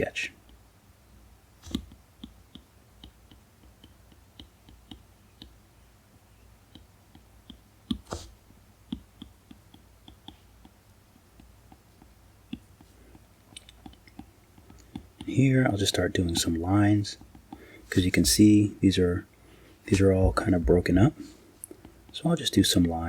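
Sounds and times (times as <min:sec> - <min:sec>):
stylus tapping on screen: 0:00.4 - 0:00.6, 0:01.6 - 0:05.7, 0:06.4 - 0:18.7, 0:19.9 - 0:23.0.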